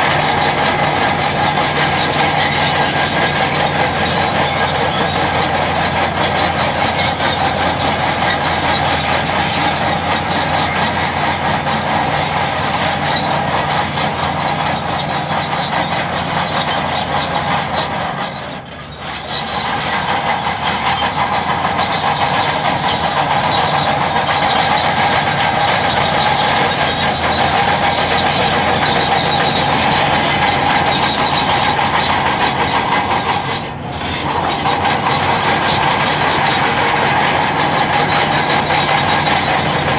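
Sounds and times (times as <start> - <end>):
bulldozer running under load: 0.0 - 39.9.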